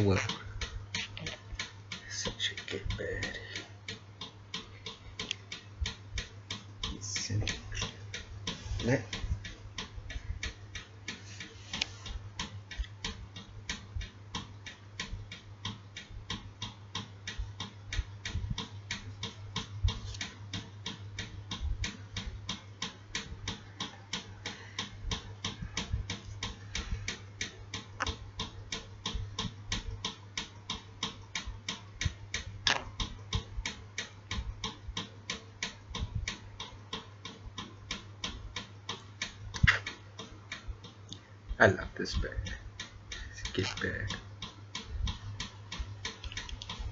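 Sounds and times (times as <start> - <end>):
steady ticking: 0.0 - 46.9.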